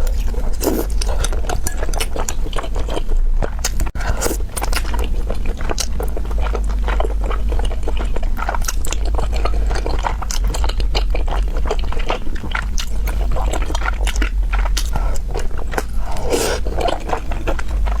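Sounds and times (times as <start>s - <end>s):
chewing and biting chicken: 0.0s - 18.0s
steady low hum: 0.0s - 18.0s.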